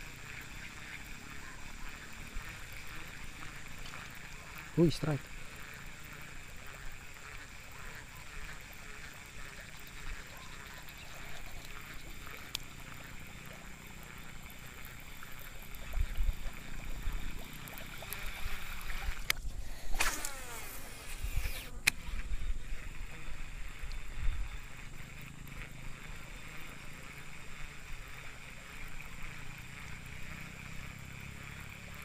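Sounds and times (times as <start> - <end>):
fishing reel ticking: 0.0 - 32.0.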